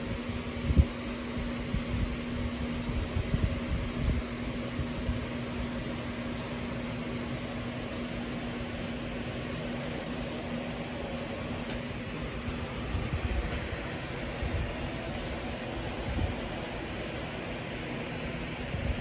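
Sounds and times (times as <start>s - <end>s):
fan hum with hiss: 0.0s - 19.0s.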